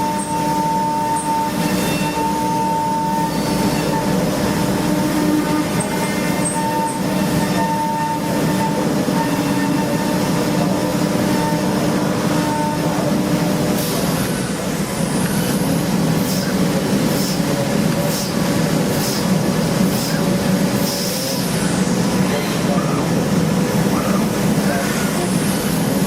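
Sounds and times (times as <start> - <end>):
cnc machine cutting metal: 0.0 - 26.0
high machine whine: 0.0 - 26.0.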